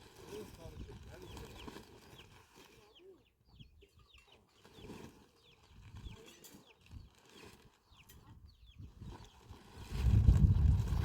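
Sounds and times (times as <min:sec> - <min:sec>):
birds peeping: 0:00.4 - 0:11.0.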